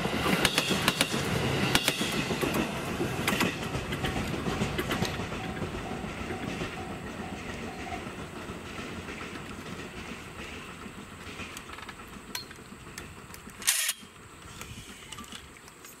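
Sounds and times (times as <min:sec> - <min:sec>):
train rumble and rail clatter: 0:00.0 - 0:16.0.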